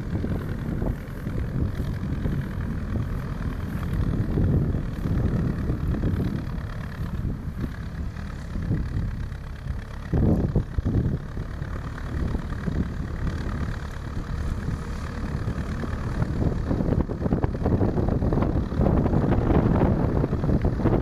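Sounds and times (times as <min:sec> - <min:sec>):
low engine rumbling surges: 0:00.0 - 0:21.0
tractor diesel engine running: 0:00.0 - 0:21.0.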